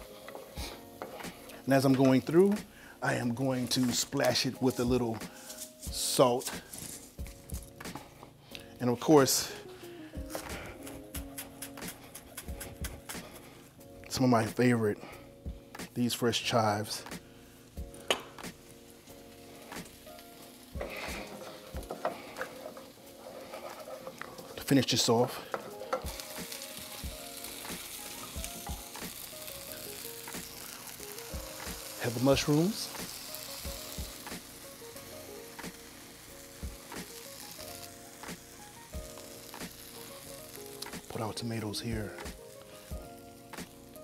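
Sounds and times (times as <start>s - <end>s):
eggs sizzling in a pan: 0.0s - 8.0s, 16.5s - 44.0s
soft background music: 0.0s - 44.0s.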